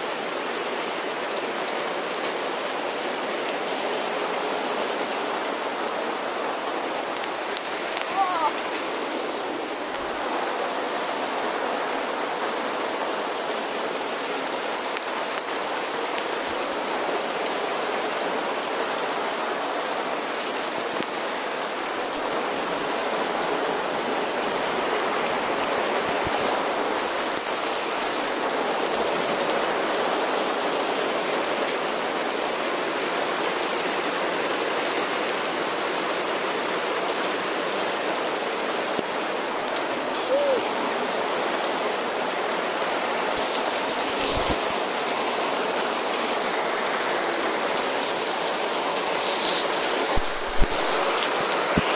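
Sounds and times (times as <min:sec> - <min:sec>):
rain falling on wet paving: 0:00.0 - 0:51.9.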